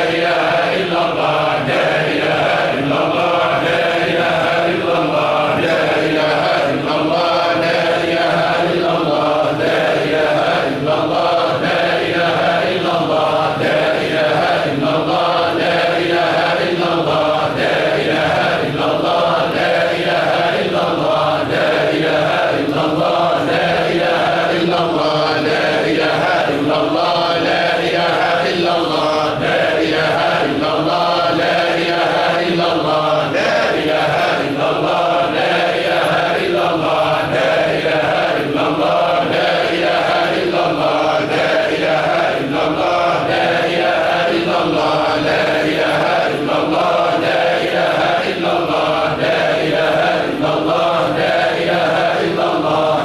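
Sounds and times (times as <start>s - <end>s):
men chanting in unison: 0.0s - 53.0s.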